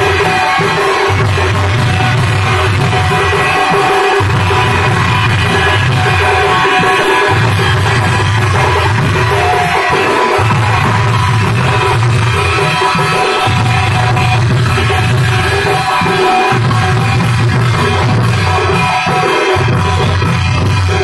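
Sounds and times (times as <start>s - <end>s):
loud dance music: 0.0s - 21.0s.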